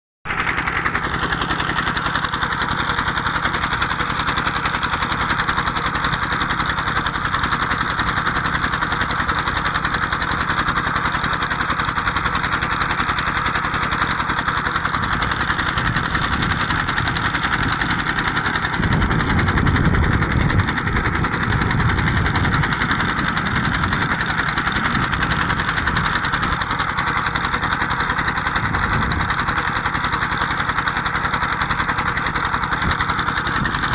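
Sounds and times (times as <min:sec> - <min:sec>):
diesel engine knocking beat: 0:00.3 - 0:33.9.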